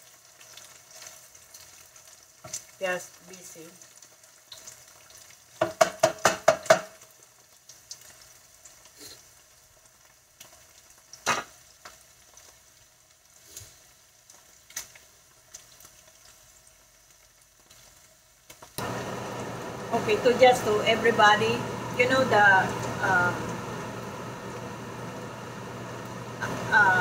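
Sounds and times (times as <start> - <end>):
meat sizzling in a pan: 0.0 - 27.0.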